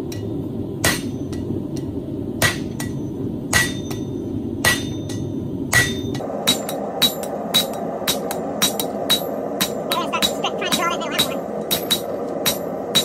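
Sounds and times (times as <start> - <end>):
hammer striking steel on anvil: 0.0 - 13.0
low rumble: 0.0 - 13.0.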